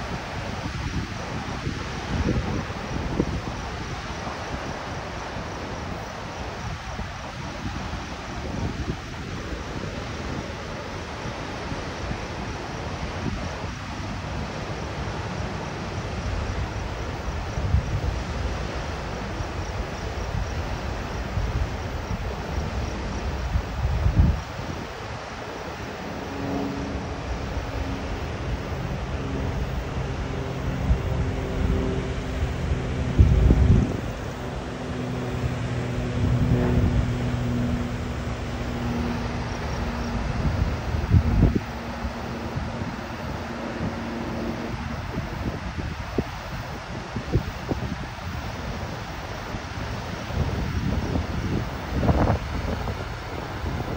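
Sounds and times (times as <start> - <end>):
propeller airplane engine drone: 0.0 - 53.9
rushing river water: 0.0 - 53.9
wind buffeting microphone: 0.0 - 53.9.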